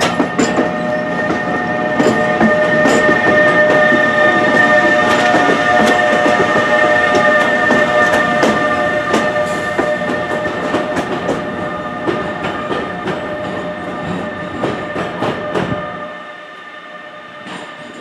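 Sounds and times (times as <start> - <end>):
train wheels clacking: 0.0 - 15.9, 17.4 - 18.0
electric train whine: 0.0 - 18.0
low train rumble: 0.0 - 18.0.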